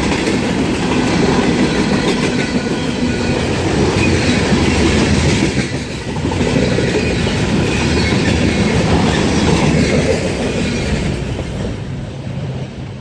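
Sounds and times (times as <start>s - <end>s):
railroad cars rumbling: 0.0s - 13.0s.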